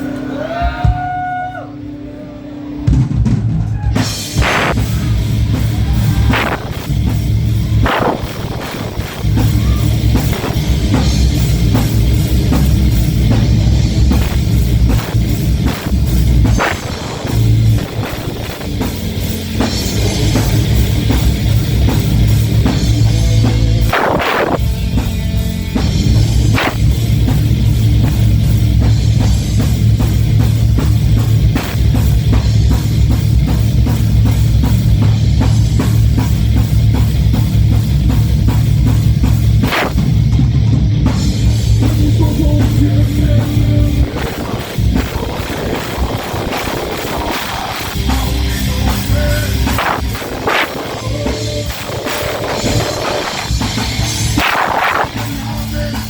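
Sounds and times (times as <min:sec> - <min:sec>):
heavy metal band playing live: 0:00.0 - 0:56.0
fast driving drum kit: 0:02.8 - 0:56.0.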